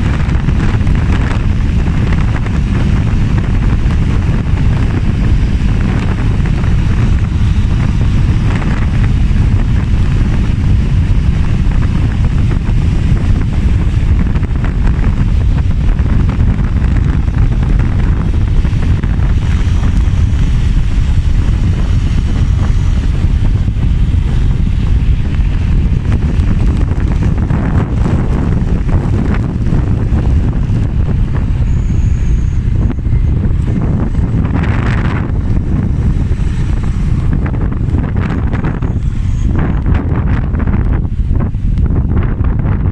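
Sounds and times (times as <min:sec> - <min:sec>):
motorbike rumble: 0:00.0 - 0:42.9
wind rushing over microphone: 0:00.0 - 0:42.9.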